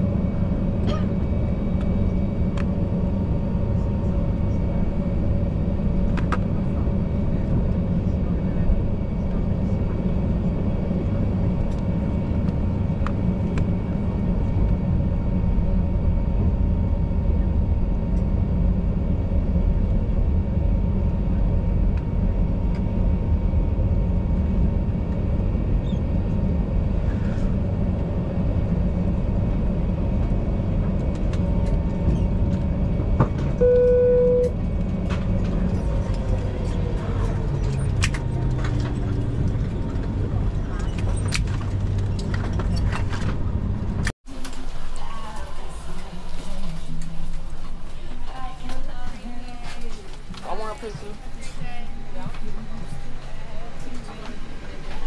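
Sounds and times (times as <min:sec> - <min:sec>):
faint engine whine: 0:00.0 - 0:55.0
jet engines idling rumble: 0:00.0 - 0:55.0.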